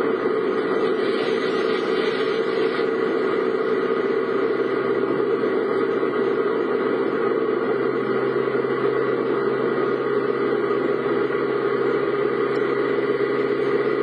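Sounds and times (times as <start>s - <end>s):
car engine: 0.0s - 14.0s
road noise inside car: 0.0s - 14.0s.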